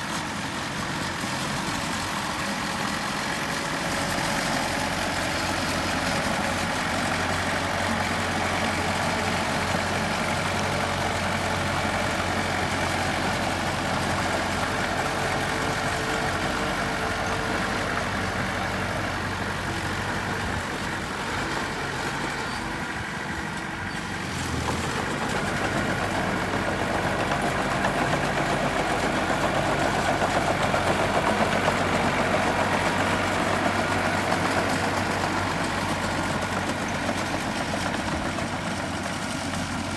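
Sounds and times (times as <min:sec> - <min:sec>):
construction machine diesel engine: 0:00.0 - 0:39.9.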